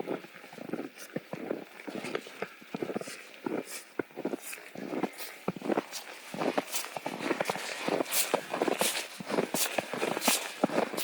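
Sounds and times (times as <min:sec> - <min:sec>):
footsteps in deep snow: 0:00.0 - 0:11.0
hard breathing: 0:02.1 - 0:11.0.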